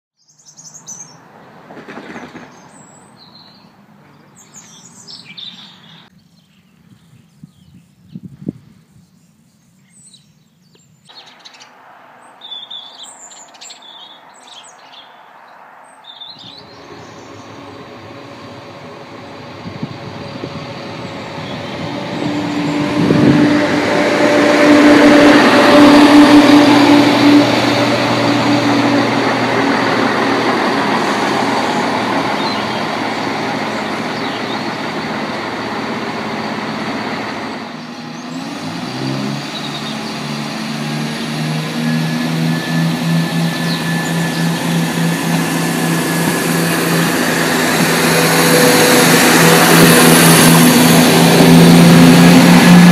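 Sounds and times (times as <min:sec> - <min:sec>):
birds chirping: 0:00.2 - 0:23.2, 0:26.2 - 0:41.2, 0:41.8 - 0:51.8
diesel train passing with whine: 0:00.3 - 0:06.1, 0:11.1 - 0:52.9.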